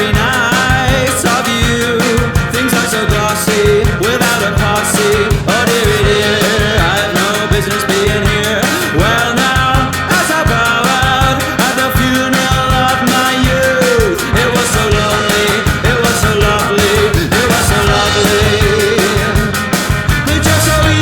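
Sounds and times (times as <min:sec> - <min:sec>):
upbeat rock music: 0:00.0 - 0:21.0.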